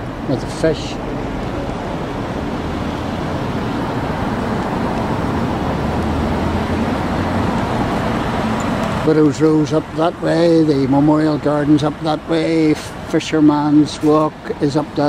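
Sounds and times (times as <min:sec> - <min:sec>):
road traffic rushing: 0:00.0 - 0:15.0.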